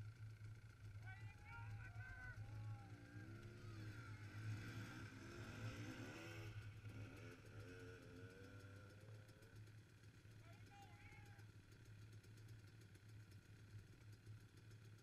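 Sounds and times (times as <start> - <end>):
faint dirt bike engines revving: 0.0 - 15.0.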